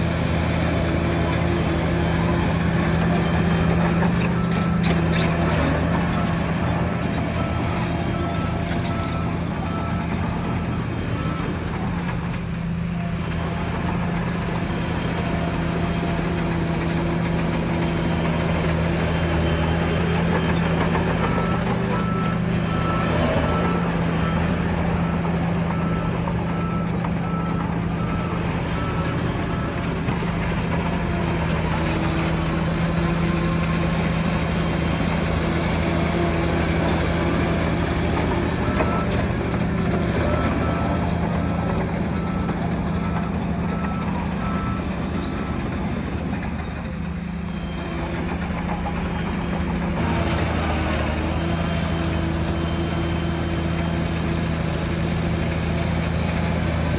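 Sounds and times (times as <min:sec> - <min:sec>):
reversing alarm beeping: 0:00.0 - 0:30.3, 0:36.3 - 0:54.4
bulldozer diesel engine running: 0:00.0 - 0:56.9.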